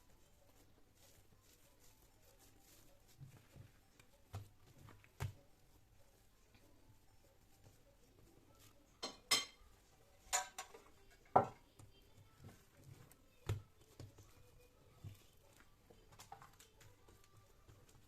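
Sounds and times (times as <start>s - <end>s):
light knocks and clicks of objects: 0.0s - 18.0s.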